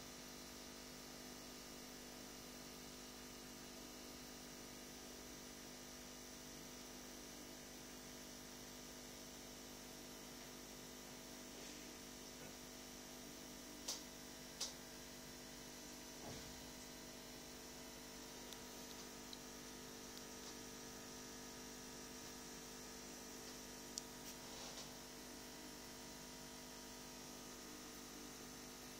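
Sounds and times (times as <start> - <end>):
faint electrical hum: 0.0 - 28.9.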